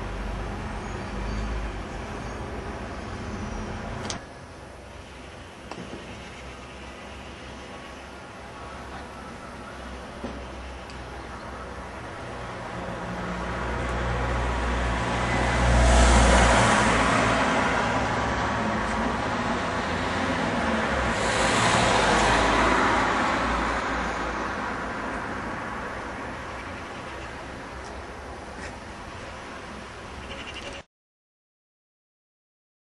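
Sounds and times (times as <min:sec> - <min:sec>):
vehicles passing: 0:00.0 - 0:30.8.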